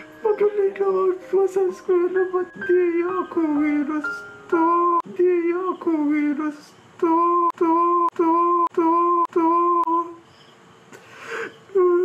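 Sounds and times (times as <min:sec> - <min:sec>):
person humming mournful tune: 0:00.0 - 0:10.2, 0:11.7 - 0:12.0.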